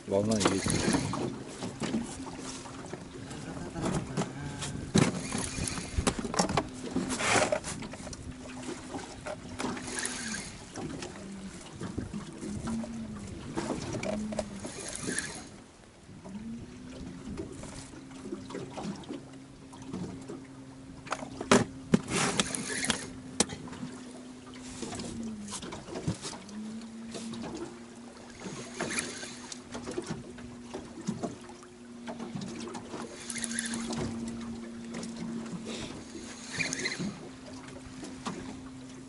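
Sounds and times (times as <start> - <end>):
low motor hum: 0.0 - 39.0
waves slapping against boat hull: 0.0 - 39.0.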